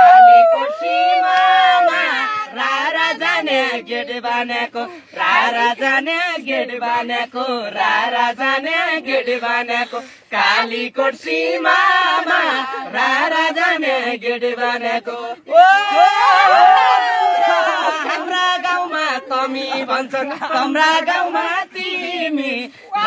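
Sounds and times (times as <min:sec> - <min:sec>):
men and women singing together: 0:00.1 - 0:23.0.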